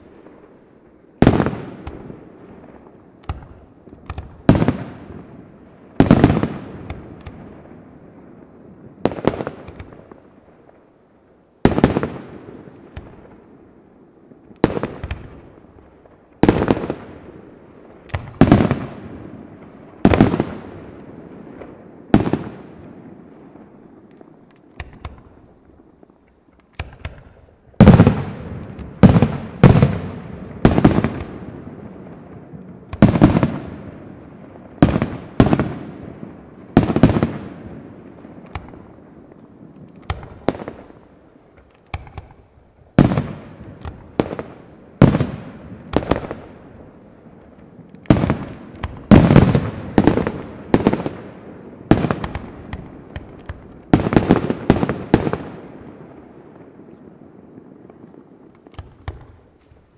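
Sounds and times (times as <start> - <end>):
firework bangs echoing: 0.0 - 10.9, 11.6 - 59.9.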